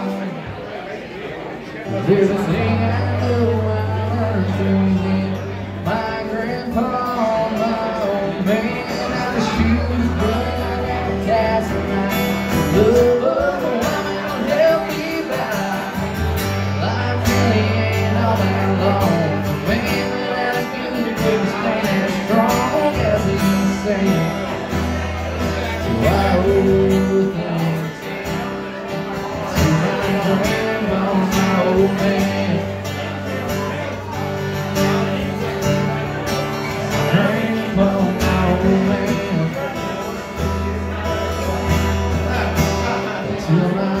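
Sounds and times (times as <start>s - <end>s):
acoustic guitar: 0.0s - 44.0s
man singing into microphone: 1.8s - 44.0s.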